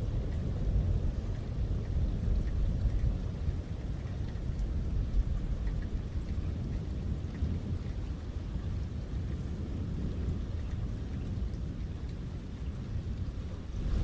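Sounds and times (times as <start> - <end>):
low rumble of thunder: 0.0 - 14.0
rain falling: 0.0 - 14.0.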